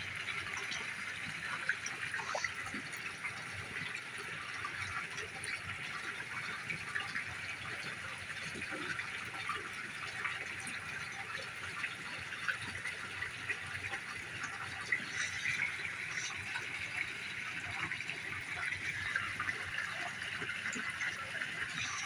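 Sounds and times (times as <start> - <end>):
small splashes and drips: 0.0 - 22.0
waterfall rushing into pond: 0.0 - 22.0.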